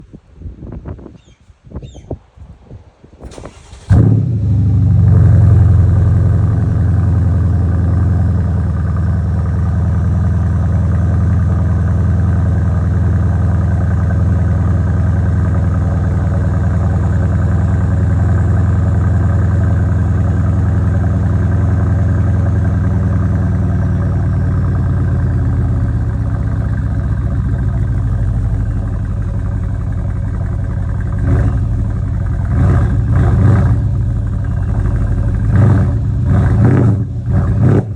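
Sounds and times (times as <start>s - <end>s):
car engine idling with rumble: 3.4s - 37.9s.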